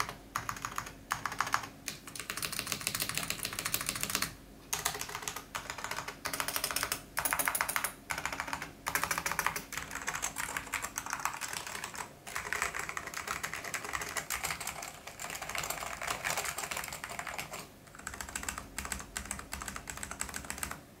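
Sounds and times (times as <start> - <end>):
mechanical keyboard typing: 0.0 - 20.8.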